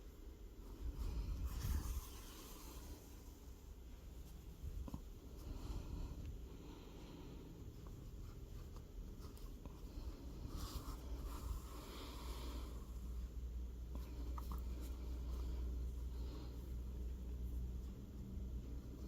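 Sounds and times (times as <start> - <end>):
yarn rustling through crochet: 0.0 - 6.2, 7.5 - 19.0
low steady hum: 0.0 - 19.0.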